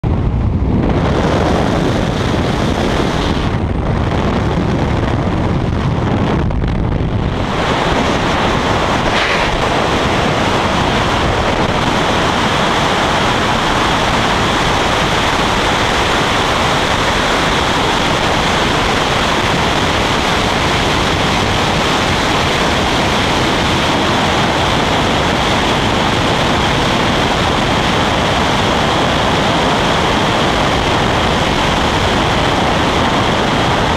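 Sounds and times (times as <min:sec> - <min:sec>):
freefall wind rushing over microphone: 0:00.0 - 0:33.9.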